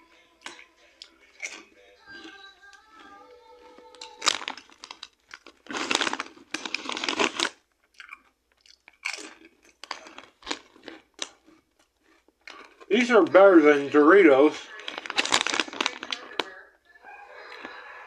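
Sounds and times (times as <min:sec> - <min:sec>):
person crunching chips: 0:00.2 - 0:16.6.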